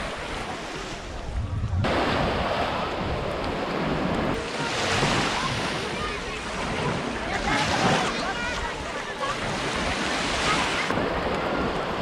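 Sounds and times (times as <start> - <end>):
sea surf washing onto beach: 0.0 - 12.0
wind buffeting microphone: 0.0 - 12.0.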